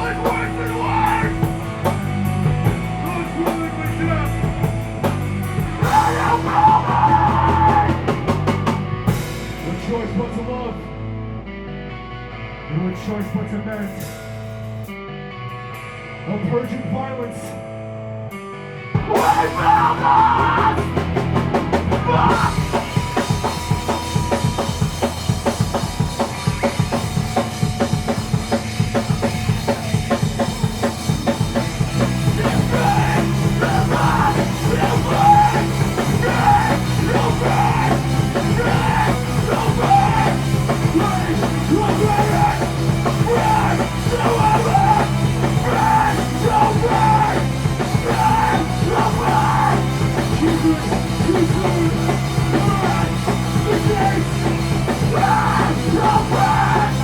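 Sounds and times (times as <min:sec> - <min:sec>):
fast dense drumming: 0:00.0 - 0:09.9, 0:19.2 - 0:57.0
bass and guitars holding low notes: 0:00.0 - 0:57.0
busy guitar line: 0:00.0 - 0:57.0.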